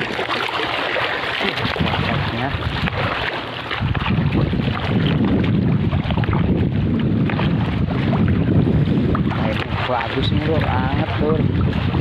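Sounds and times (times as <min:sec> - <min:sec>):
seawater lapping around pilings: 0:00.0 - 0:12.0
wind buffeting microphone: 0:01.4 - 0:12.0.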